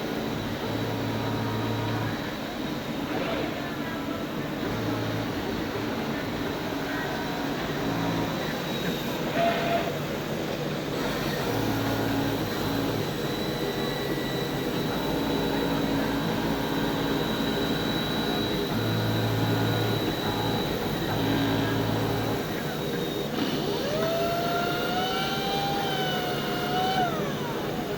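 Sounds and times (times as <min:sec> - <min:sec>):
cutting machine drone with whine: 0:00.0 - 0:27.9.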